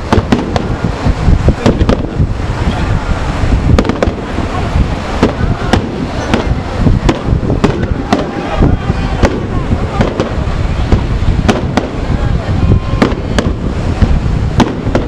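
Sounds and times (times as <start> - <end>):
continuous low rumble: 0.0 - 15.0
fireworks bangs: 0.0 - 15.0.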